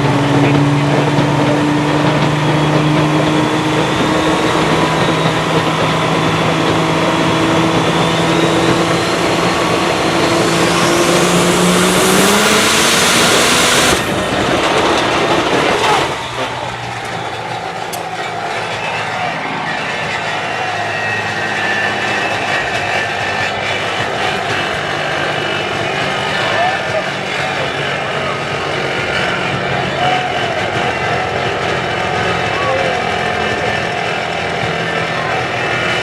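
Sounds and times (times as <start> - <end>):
diesel engine under load: 0.0 - 36.0
turbocharger whine: 0.0 - 36.0.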